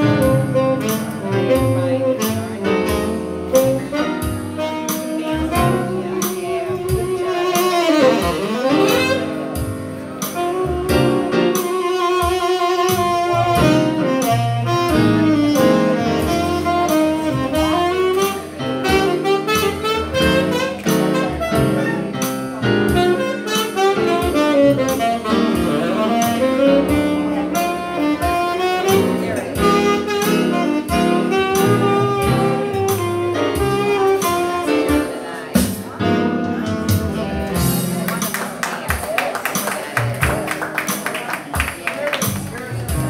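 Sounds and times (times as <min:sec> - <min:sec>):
keyboard chords: 0:00.0 - 0:43.0
saxophone solo: 0:00.0 - 0:43.0
upright bass: 0:00.0 - 0:43.0.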